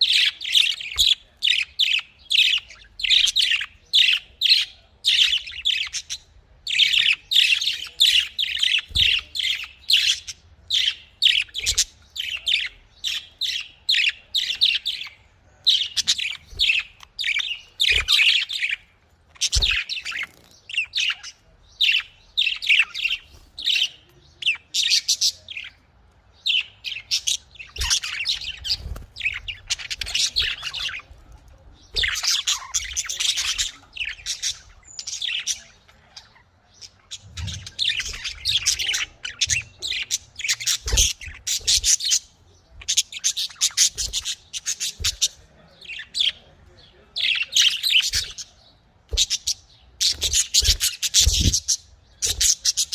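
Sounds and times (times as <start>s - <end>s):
budgerigars chirping and twittering: 0.0s - 52.9s.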